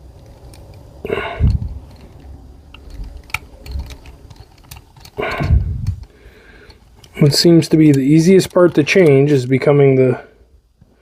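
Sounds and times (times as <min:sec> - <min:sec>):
handling noises: 0:00.0 - 0:10.2
hand tools clicking on metal parts: 0:00.1 - 0:10.0.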